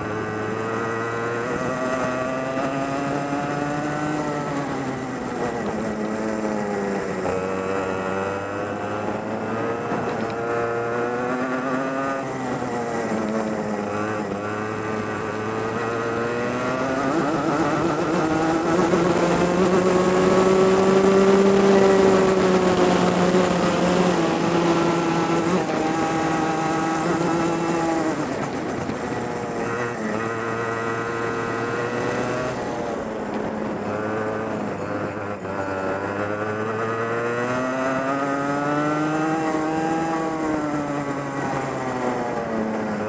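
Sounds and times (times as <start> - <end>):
racing kart engine: 0.0 - 43.0.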